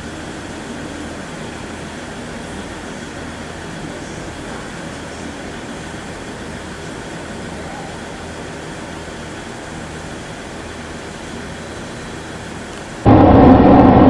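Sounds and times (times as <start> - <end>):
electric train hum and rumble: 0.0 - 14.0.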